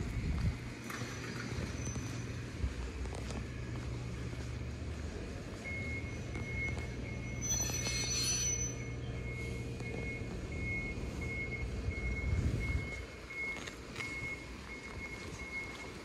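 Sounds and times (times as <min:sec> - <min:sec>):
low vehicle rumble: 0:00.0 - 0:16.0
vehicle engine idling hum: 0:00.0 - 0:16.0
electronic warning beeps: 0:00.1 - 0:02.7, 0:05.5 - 0:16.0.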